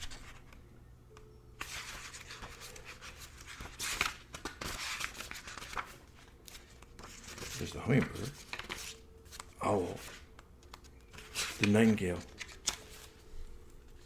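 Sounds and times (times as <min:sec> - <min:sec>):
paper pages rustling: 0:01.6 - 0:14.0.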